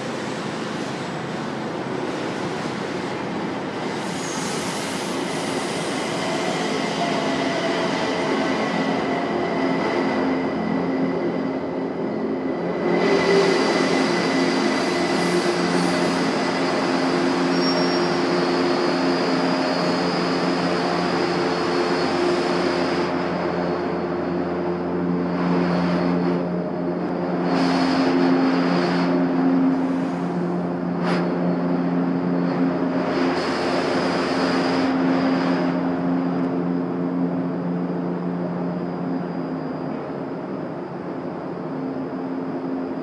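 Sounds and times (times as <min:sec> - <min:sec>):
train braking into station: 0:00.0 - 0:43.0.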